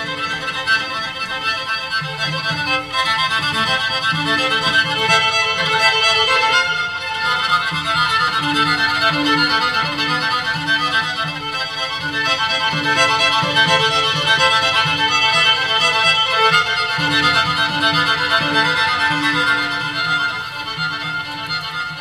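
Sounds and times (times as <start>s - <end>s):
violin and cello bowing: 0.0s - 22.0s.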